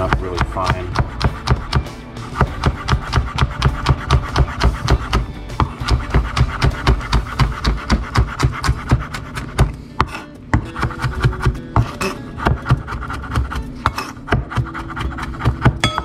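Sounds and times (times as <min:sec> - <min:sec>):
knife chopping on wooden board: 0:00.0 - 0:16.0.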